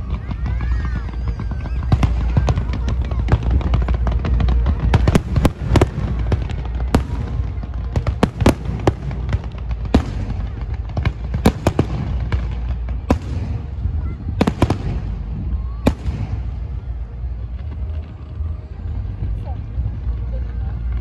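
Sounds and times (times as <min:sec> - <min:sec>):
fireworks bursting with bangs: 0:00.0 - 0:21.0.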